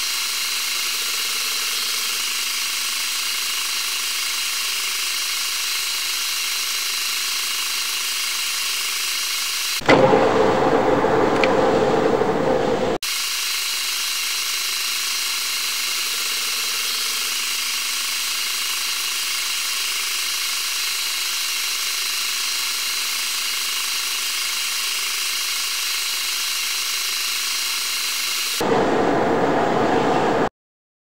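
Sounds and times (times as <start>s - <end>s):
lathe cutting hiss: 0.0s - 30.5s
lathe running: 0.0s - 30.5s.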